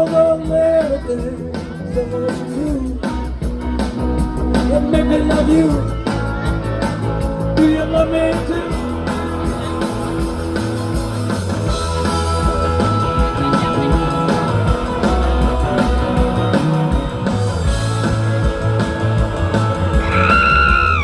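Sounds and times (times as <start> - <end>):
drums: 0.0 - 21.0
electric guitar: 0.0 - 21.0
steady bass: 0.0 - 21.0.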